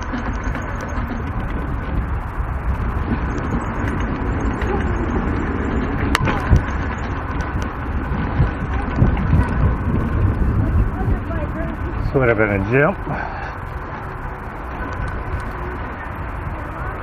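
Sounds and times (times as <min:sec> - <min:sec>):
bike tyres rumbling on dirt: 0:00.0 - 0:17.0
wind noise on microphone: 0:00.0 - 0:17.0.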